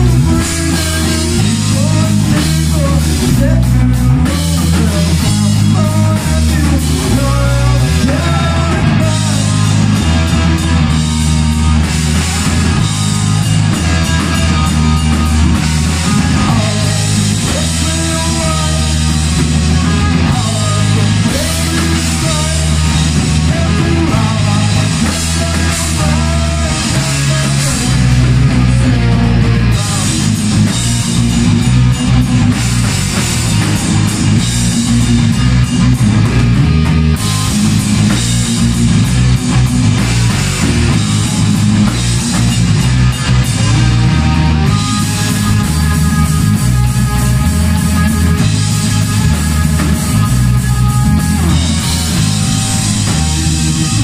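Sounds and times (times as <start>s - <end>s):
loud heavy rock music: 0.0s - 54.0s.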